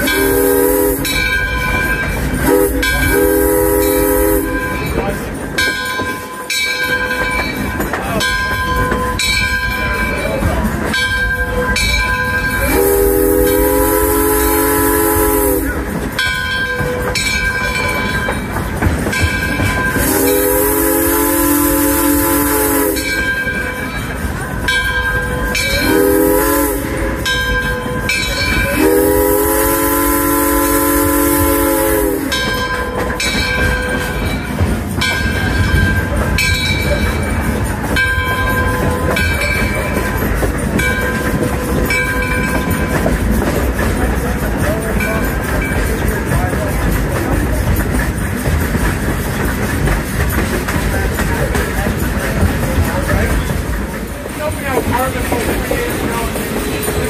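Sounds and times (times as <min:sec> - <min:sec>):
steam locomotive chime whistle: 0:00.0 - 0:54.1
train running noise: 0:00.0 - 0:57.0.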